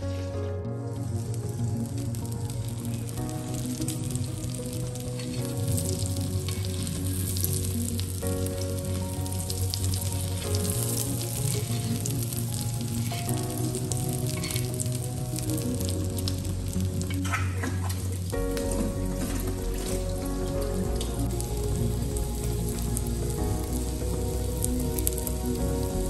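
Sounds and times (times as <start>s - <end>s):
sandwich sizzling in bubbling fat: 1.2s - 25.6s.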